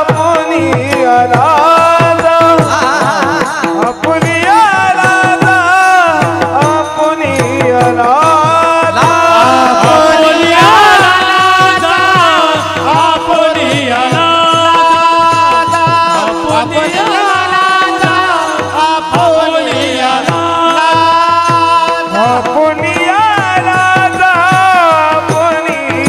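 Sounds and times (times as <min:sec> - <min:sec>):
drum rhythm: 0:00.0 - 0:26.0
men singing devotional chant: 0:00.0 - 0:26.0.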